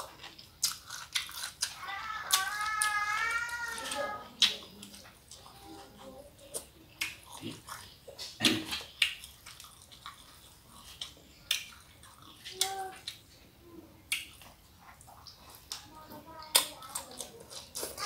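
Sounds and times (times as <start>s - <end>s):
wet chewing and lip-smacking: 0.0s - 13.4s, 14.0s - 18.0s.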